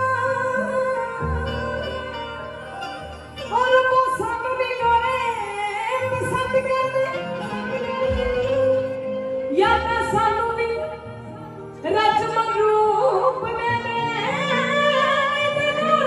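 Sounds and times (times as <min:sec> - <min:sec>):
instrumental backing: 0:00.0 - 0:16.0
woman singing into a microphone: 0:00.0 - 0:16.0.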